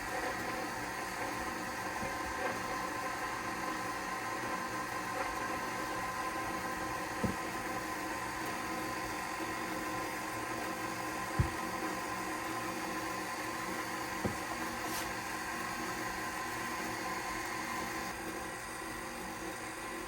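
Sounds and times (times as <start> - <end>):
electric mixer motor humming: 0.0 - 20.0.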